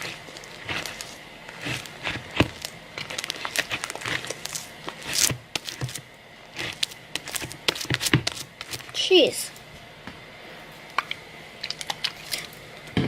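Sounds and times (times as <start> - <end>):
slime squelching and crackling: 0.0 - 9.4, 10.9 - 12.6.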